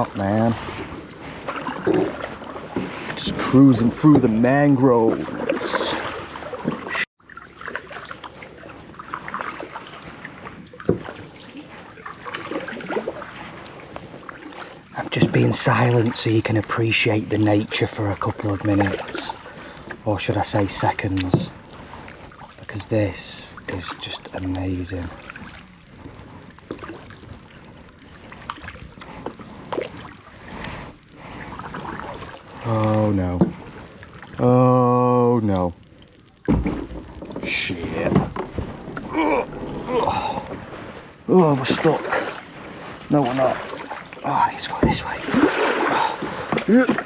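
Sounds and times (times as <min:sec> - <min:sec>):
water trickling from paddle: 0:00.0 - 0:47.0.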